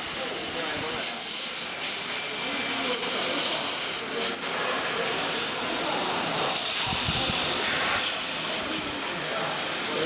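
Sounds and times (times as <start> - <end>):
laser cutter hissing: 0.0 - 10.0.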